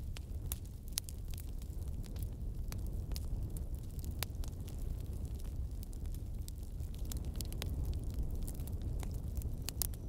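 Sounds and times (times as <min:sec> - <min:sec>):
burning wood crackling and popping: 0:00.0 - 0:10.0
low rumble of flames: 0:00.0 - 0:10.0.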